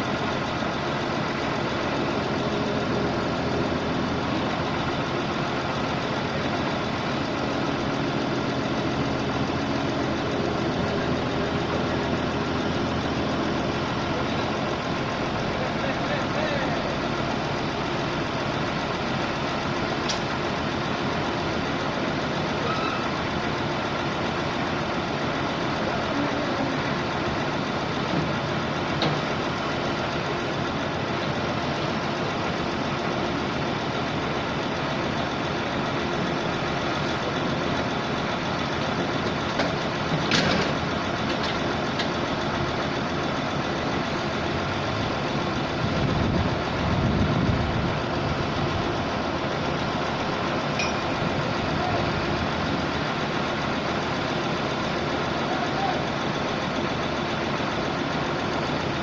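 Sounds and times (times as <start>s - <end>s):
air compressor engine running: 0.0s - 59.0s.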